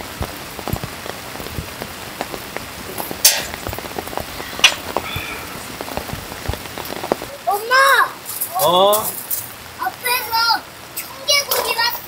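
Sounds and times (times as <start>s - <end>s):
rain drops tapping: 0.0s - 12.0s.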